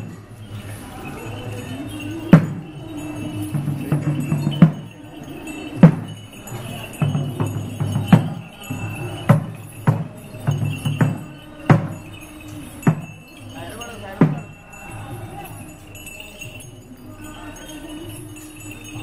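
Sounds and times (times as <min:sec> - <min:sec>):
bells jingling: 0:00.0 - 0:19.0
metal bells clanging: 0:00.0 - 0:19.0.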